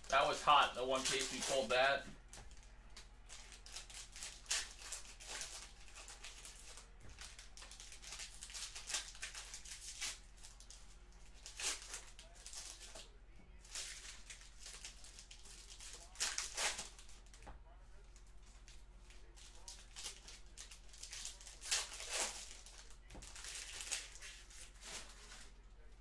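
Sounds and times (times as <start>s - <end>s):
wrappers crinkling and tearing: 0.0s - 26.0s.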